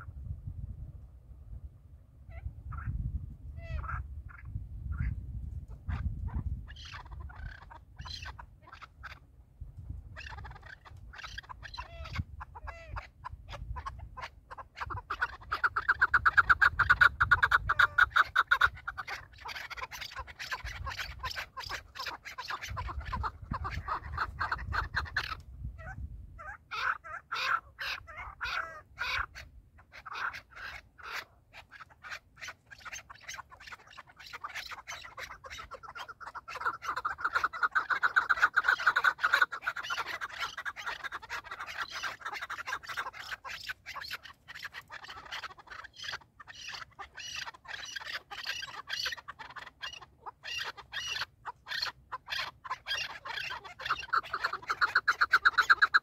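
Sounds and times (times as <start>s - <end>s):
partridges clucking calls: 2.3s - 3.0s, 3.6s - 9.3s, 9.9s - 56.0s.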